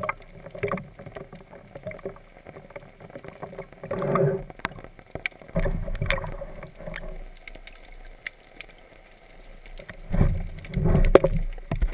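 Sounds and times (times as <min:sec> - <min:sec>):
muffled underwater water rush: 0:00.0 - 0:11.9
small clicks and knocks: 0:00.0 - 0:11.9.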